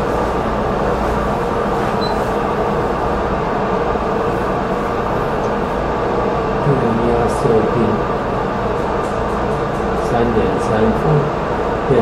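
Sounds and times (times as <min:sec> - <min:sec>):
cooling fans humming: 0:00.0 - 0:12.0.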